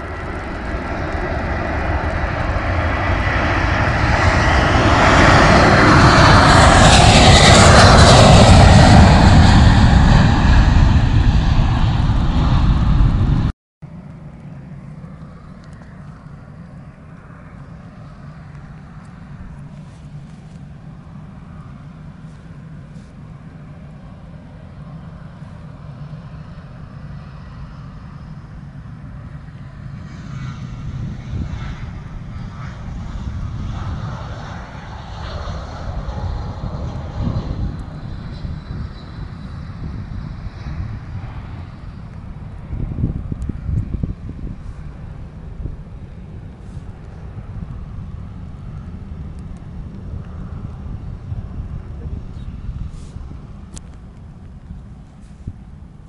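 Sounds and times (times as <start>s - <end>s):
faint jet engine rumble: 0.0s - 56.0s
jet airliner passing overhead: 0.0s - 56.0s.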